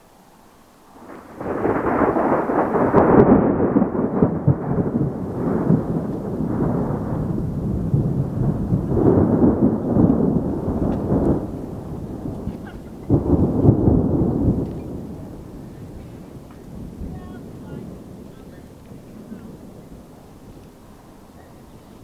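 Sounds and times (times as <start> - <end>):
thunder rolling: 0.9 - 22.0.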